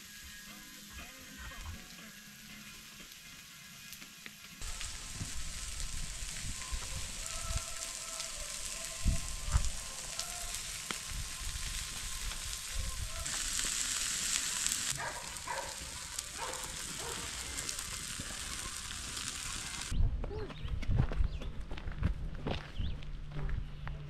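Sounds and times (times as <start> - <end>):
food frying with sizzle: 0.0 - 20.0.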